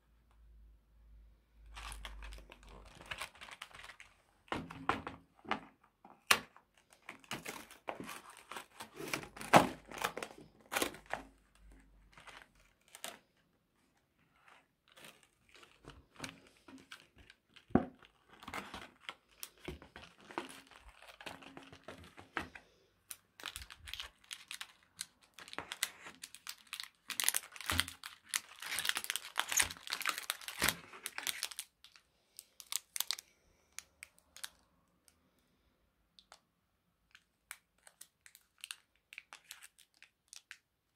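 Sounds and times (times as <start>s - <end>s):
foil packet crinkling: 1.6s - 4.8s, 6.1s - 13.4s, 14.3s - 34.6s, 37.5s - 40.6s.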